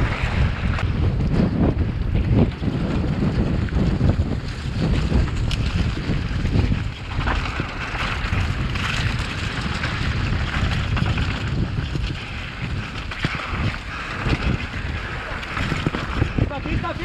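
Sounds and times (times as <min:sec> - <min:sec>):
tyre and trail noise: 0:00.0 - 0:17.0
wind buffeting microphone: 0:00.0 - 0:17.0
bike knocking over bumps: 0:00.1 - 0:16.5.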